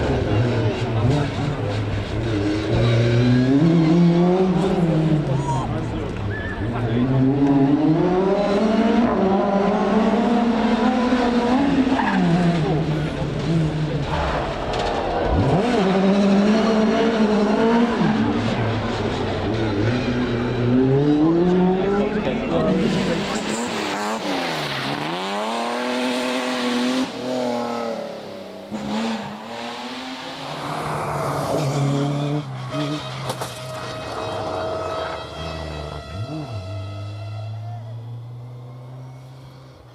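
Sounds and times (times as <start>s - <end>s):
rally car engine at full throttle: 0.0s - 39.9s.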